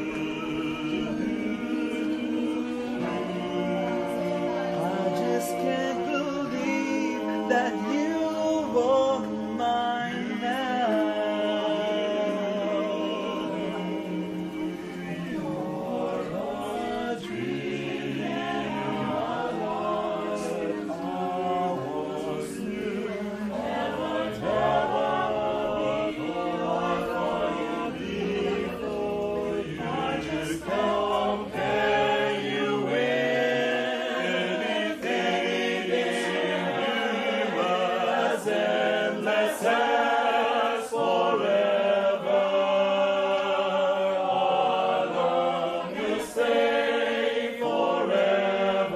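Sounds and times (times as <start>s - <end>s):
mixed choir singing in harmony: 0.0s - 48.9s.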